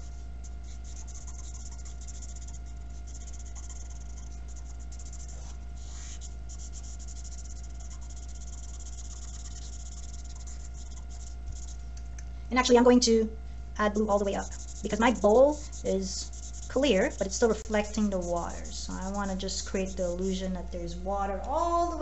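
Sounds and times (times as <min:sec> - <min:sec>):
marker scribbling on paper: 0:00.0 - 0:11.8, 0:14.0 - 0:20.2
low hum: 0:00.0 - 0:22.0.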